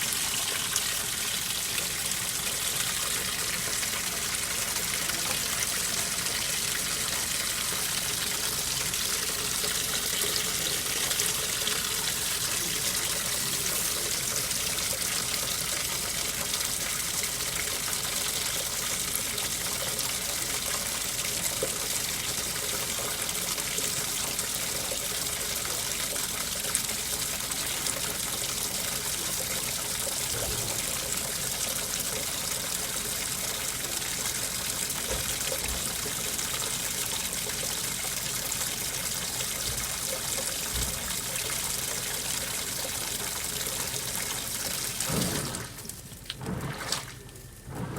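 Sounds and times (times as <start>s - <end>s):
washing machine filling with water: 0.0s - 47.9s.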